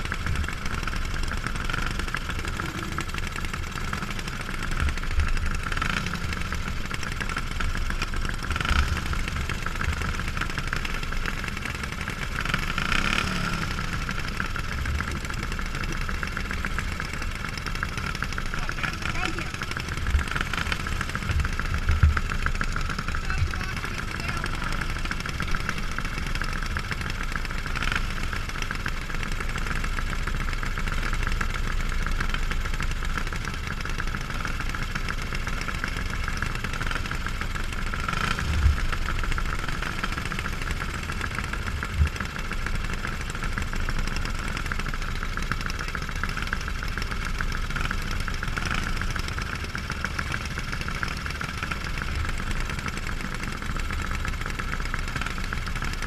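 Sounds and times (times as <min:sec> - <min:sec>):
go-kart engine idling: 0:00.0 - 0:56.0.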